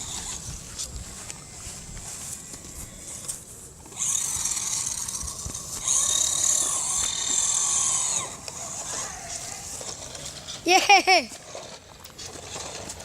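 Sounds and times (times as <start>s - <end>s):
toy car electric motor whining: 0.0s - 0.6s, 2.9s - 13.0s.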